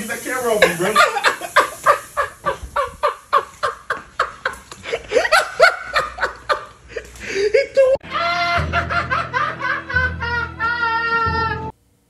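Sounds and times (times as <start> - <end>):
person laughing breathlessly: 0.8 - 10.6.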